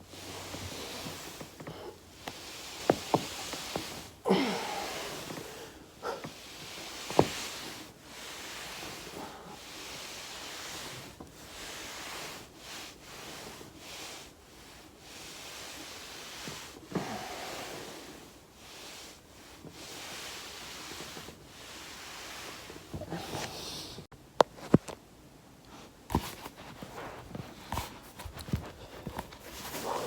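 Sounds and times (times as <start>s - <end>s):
foam roller rustling and swishing: 0.0s - 30.0s.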